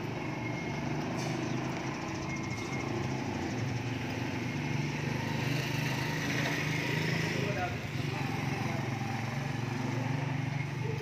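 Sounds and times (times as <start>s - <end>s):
small motorcycle engine running: 0.0s - 11.0s
street traffic noise: 0.0s - 11.0s.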